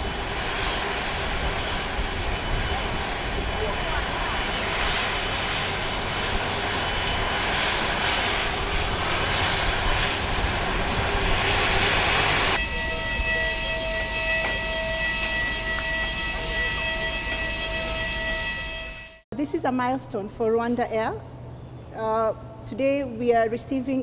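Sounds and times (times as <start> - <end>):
jet engines rushing: 0.0 - 19.2
jet engine whine with held tones: 0.0 - 19.3.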